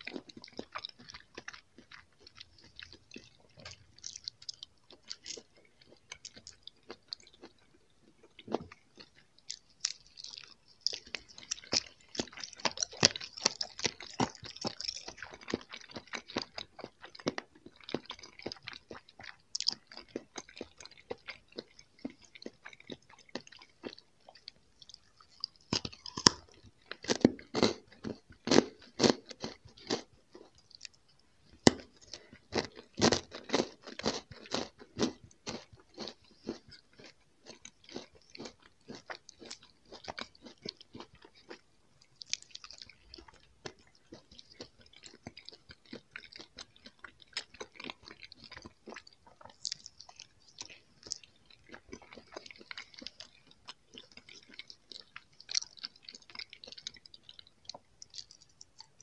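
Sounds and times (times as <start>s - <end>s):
crunching candy: 0.0s - 31.0s, 31.6s - 59.0s
soft chewing of gummy candy: 0.0s - 59.0s.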